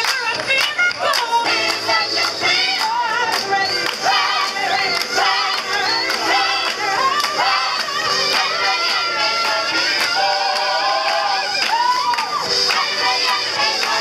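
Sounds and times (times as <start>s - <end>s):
rhythmic handclaps: 0.0s - 14.0s
woman singing lead through microphone: 0.0s - 14.0s
choir singing: 1.0s - 14.0s.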